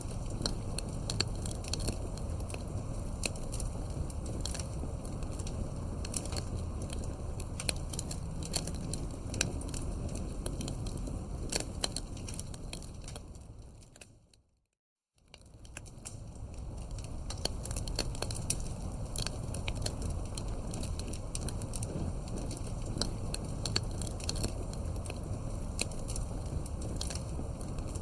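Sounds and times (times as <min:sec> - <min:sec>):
campfire crackling and popping: 0:00.0 - 0:14.1, 0:15.3 - 0:28.0.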